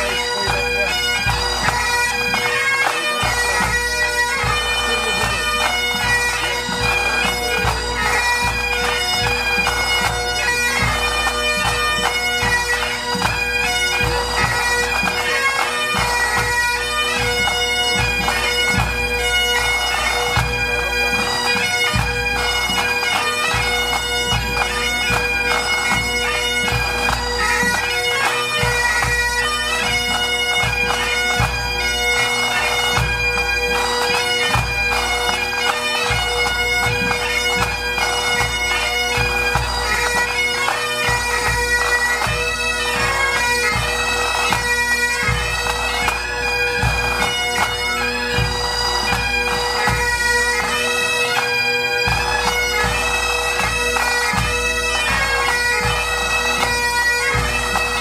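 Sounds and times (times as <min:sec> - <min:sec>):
bagpipes playing a tune: 0:00.0 - 0:58.0.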